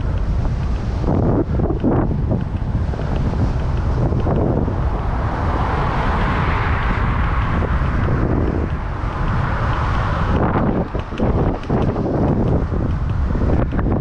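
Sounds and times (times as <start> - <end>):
car tyre and engine noise: 0.0 - 14.0
wind buffeting microphone: 0.0 - 14.0.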